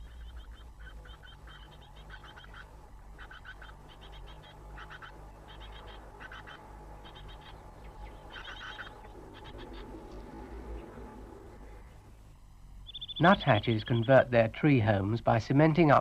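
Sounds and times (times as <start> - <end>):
songbirds buzzy chattering: 0.0 - 16.0
steady low hum: 0.0 - 16.0.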